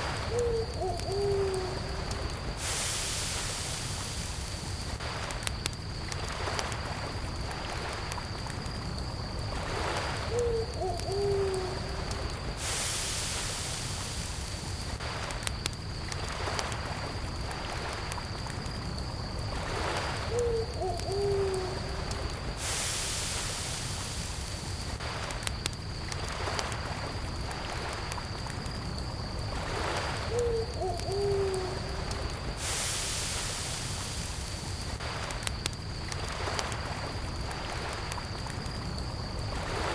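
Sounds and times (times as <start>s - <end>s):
campfire crackling: 0.0s - 39.9s
cricket trill: 0.0s - 39.9s
lake water washing: 1.0s - 39.9s.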